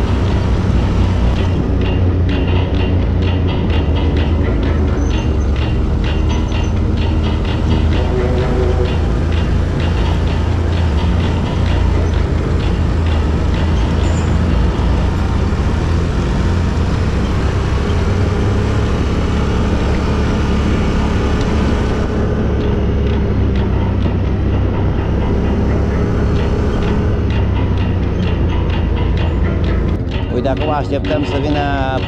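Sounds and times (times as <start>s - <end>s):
quad bike engine droning: 0.0s - 32.0s.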